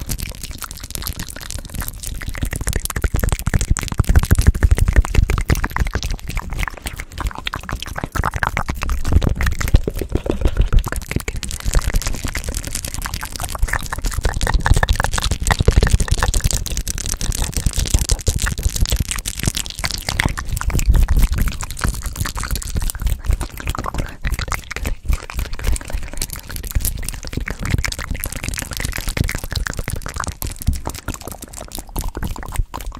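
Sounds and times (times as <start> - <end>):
wet mouth clicks and smacks: 0.0 - 32.9.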